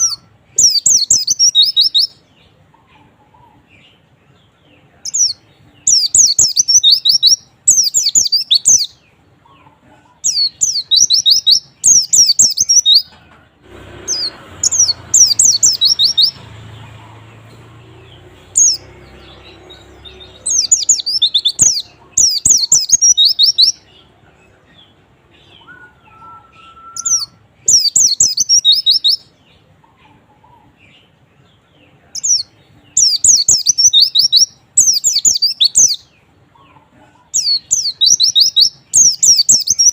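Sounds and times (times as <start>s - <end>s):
bird twittering song: 0.0s - 13.2s, 14.0s - 39.9s.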